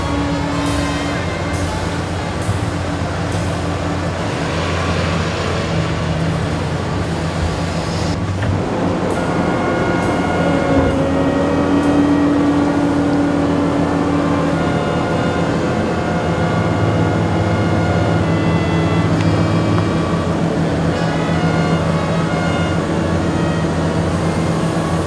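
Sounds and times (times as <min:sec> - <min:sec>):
excavator diesel engine hum: 0:00.0 - 0:25.0
mechanical whine: 0:00.0 - 0:25.0.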